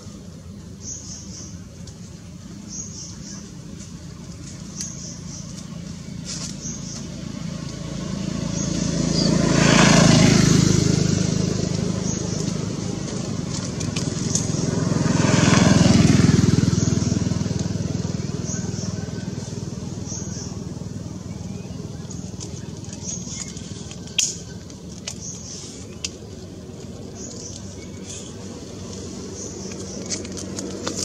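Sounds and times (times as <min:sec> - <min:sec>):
vehicles passing by: 0:00.0 - 0:31.0.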